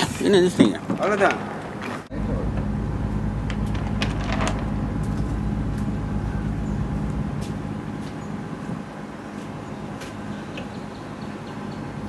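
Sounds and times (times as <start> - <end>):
diesel engine humming: 2.0 - 12.0.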